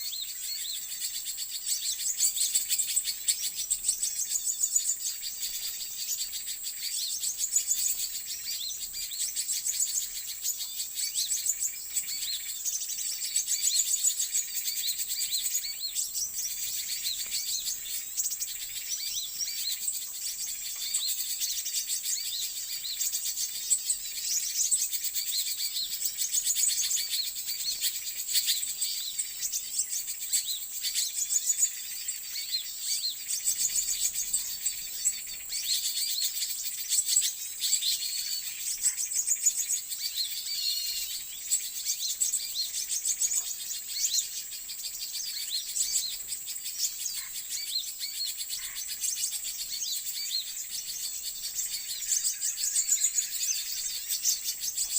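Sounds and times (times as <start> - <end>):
insect drone: 0.0 - 54.9
small birds twittering: 0.0 - 54.9.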